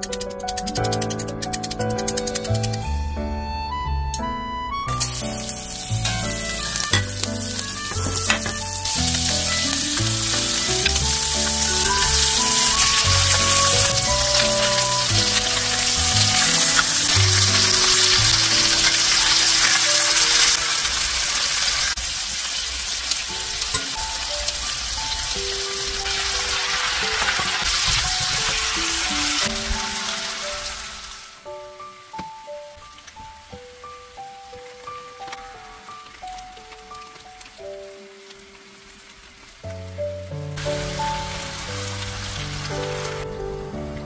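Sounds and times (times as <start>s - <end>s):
light background music: 0.0s - 20.6s, 23.4s - 39.0s, 39.6s - 44.0s
chicken sizzling in oil: 4.9s - 32.6s, 33.4s - 43.8s.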